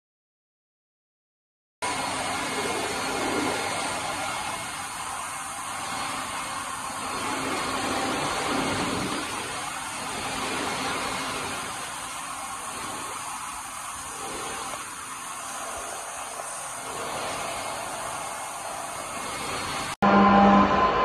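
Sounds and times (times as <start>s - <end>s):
cutting and coolant spray hiss: 1.8s - 20.0s.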